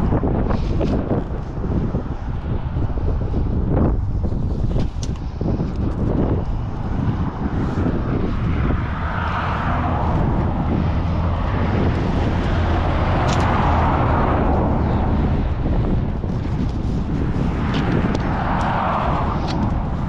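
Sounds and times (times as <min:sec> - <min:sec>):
rush of noise: 0:00.0 - 0:20.0
vehicle engine humming: 0:00.0 - 0:20.0.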